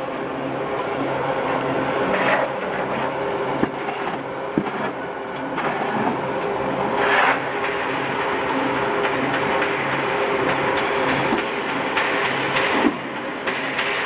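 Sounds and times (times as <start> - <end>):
press machine drone: 0.0 - 14.0.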